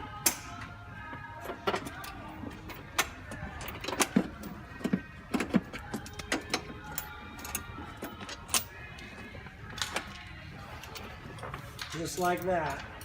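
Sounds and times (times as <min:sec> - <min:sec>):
faint background music: 0:00.0 - 0:13.0
hand tools and metal parts clicking: 0:01.4 - 0:13.0.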